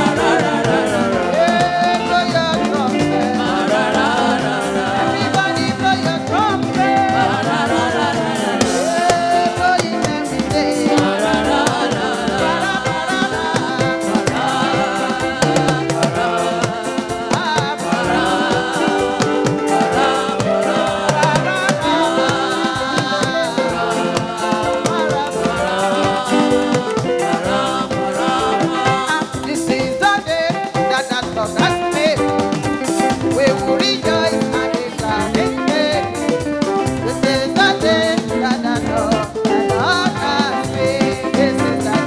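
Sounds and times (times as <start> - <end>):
backing vocalists singing: 0.0 - 42.0
fast drumming: 0.0 - 42.0
talking drums: 0.0 - 42.0
woman singing lead: 0.0 - 42.0.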